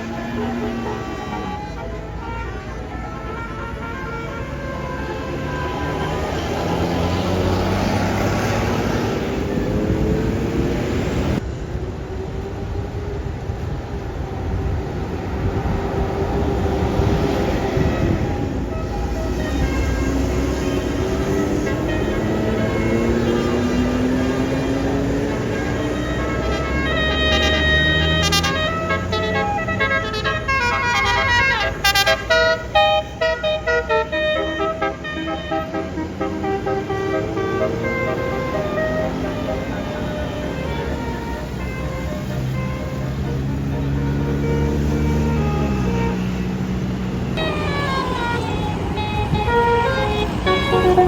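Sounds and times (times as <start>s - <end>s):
multi-tone bus horn notes: 0.0s - 11.4s, 15.2s - 51.0s
heavy bus engine rumbling: 0.0s - 51.0s.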